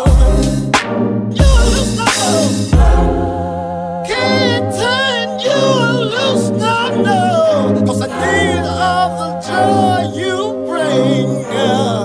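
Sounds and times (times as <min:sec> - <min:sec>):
person singing: 0:00.0 - 0:00.7, 0:01.4 - 0:12.0
sustained low chords: 0:00.0 - 0:12.0.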